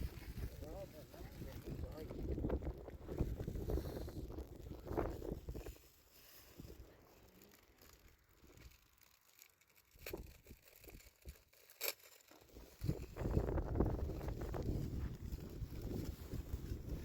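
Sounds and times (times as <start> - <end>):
faint rustling and handling: 0.0 - 17.0.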